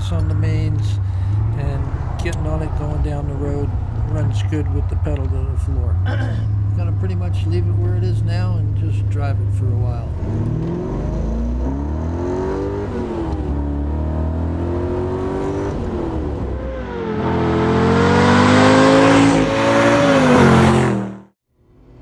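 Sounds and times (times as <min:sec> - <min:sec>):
car engine accelerating: 0:00.0 - 0:21.4.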